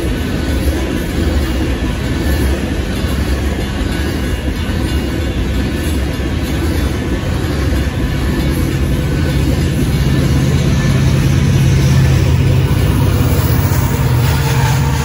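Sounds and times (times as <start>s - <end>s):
diesel locomotive engine drone: 0.0s - 15.0s
freight train cars rumbling: 0.0s - 15.0s.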